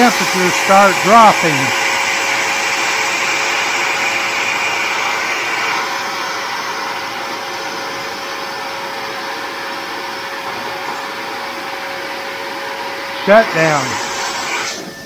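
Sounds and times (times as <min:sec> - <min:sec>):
handheld vacuum blowing: 0:00.0 - 0:15.0.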